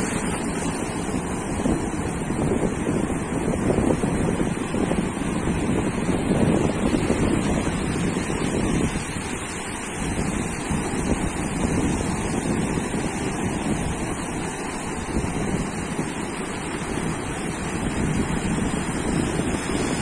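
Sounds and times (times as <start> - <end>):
surf breaking on a beach: 0.0 - 20.0
wind buffeting microphone: 0.0 - 20.0.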